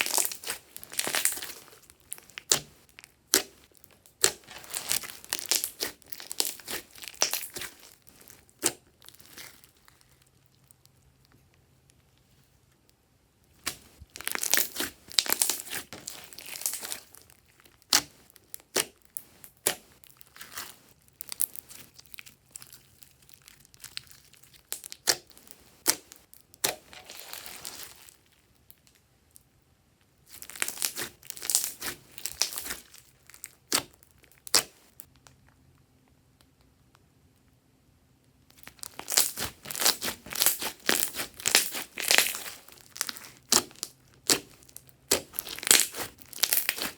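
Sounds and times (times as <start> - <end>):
slime squeezed and stretched: 0.0 - 10.5, 13.6 - 28.2, 30.3 - 35.0, 38.6 - 46.9.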